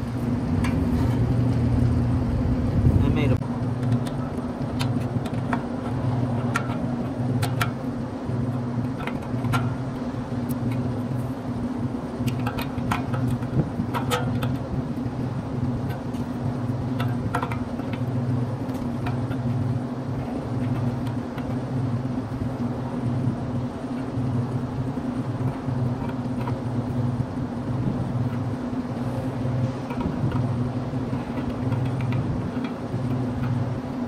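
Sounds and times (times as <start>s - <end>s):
machinery humming: 0.0s - 34.0s.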